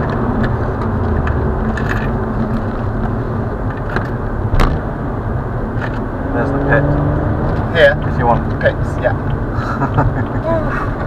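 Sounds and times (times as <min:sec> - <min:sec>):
car driving noise inside cabin: 0:00.0 - 0:11.0.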